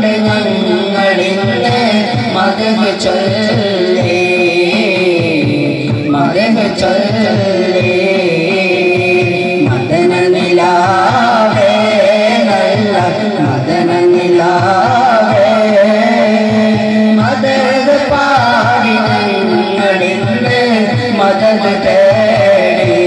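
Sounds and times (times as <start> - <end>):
men singing together: 0.0 - 23.0
rhythmic drum beat: 0.0 - 23.0.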